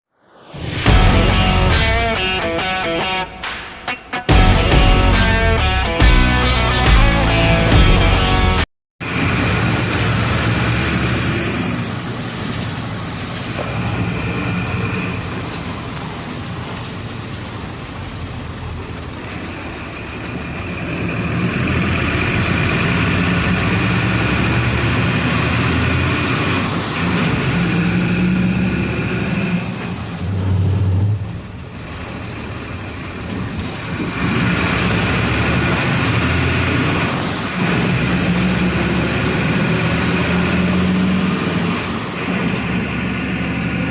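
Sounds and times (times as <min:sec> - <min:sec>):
bus diesel engine running: 0:04.3 - 0:43.9.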